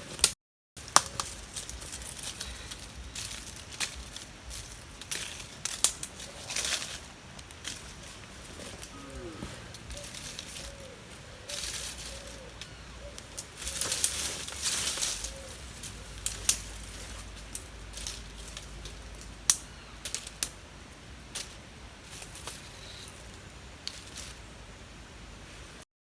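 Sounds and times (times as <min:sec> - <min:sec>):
rustling: 0:00.8 - 0:24.8.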